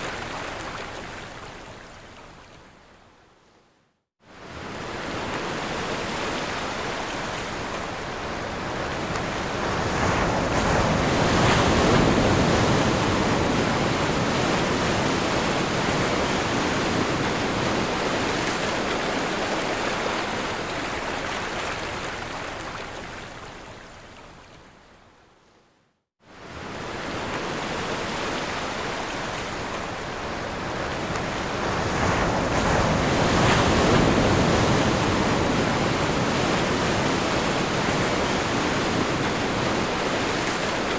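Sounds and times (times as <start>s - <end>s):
ocean waves breaking on shore: 0.0s - 2.6s, 4.2s - 24.6s, 26.2s - 40.9s.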